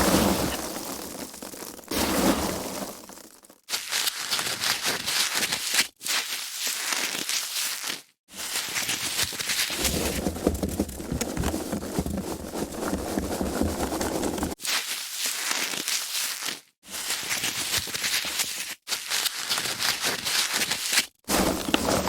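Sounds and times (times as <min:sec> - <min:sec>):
foam packaging crackling: 0:00.0 - 0:22.0.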